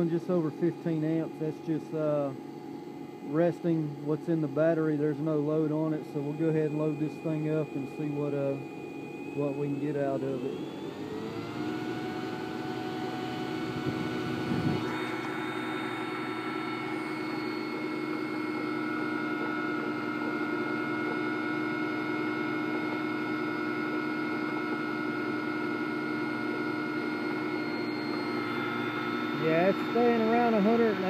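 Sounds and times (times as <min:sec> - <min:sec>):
alternator whine: 0:00.0 - 0:31.0.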